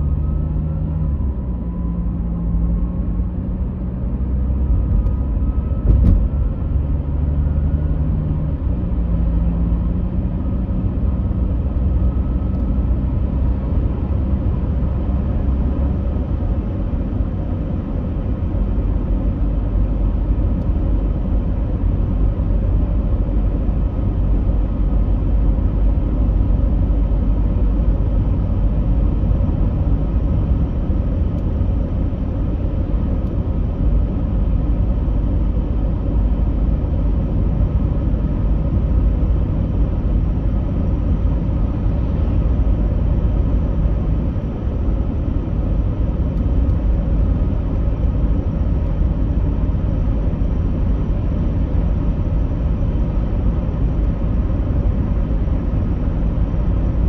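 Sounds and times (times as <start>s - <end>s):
vehicle rumble: 0.0s - 57.0s.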